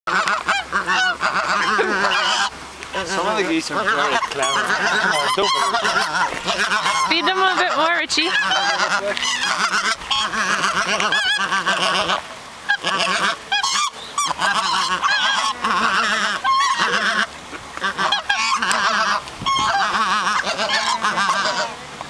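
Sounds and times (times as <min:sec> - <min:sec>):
geese honking: 0:00.1 - 0:21.8.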